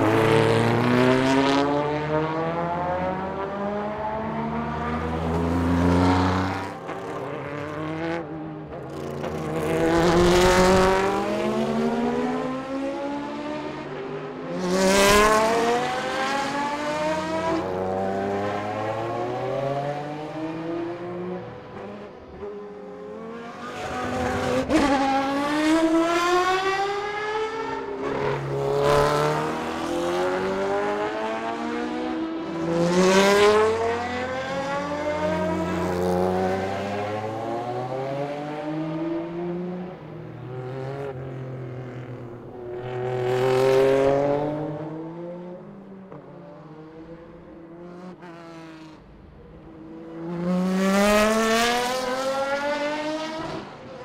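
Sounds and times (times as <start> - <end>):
racing cars passing at full throttle: 0.0 - 54.0.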